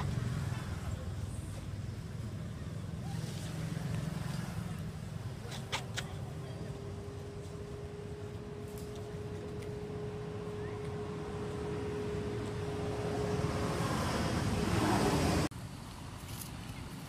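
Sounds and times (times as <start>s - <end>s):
road vehicle passing: 0.0s - 16.2s.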